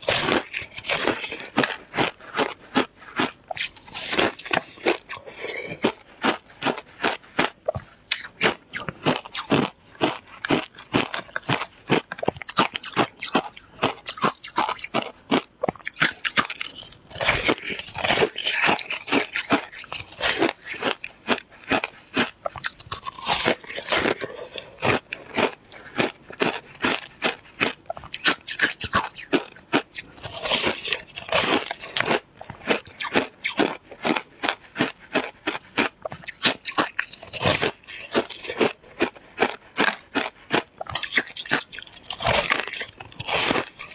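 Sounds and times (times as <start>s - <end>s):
ice crunching while chewed: 0.0s - 43.9s.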